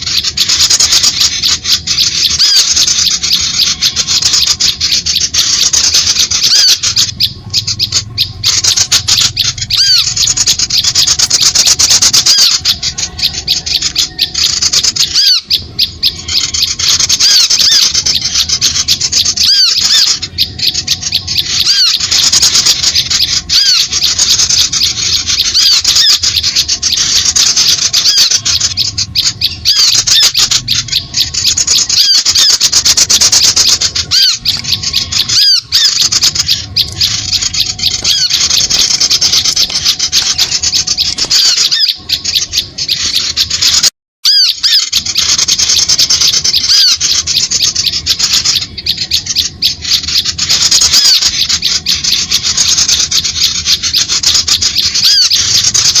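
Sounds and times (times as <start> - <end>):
small birds chattering: 0.0 - 56.0.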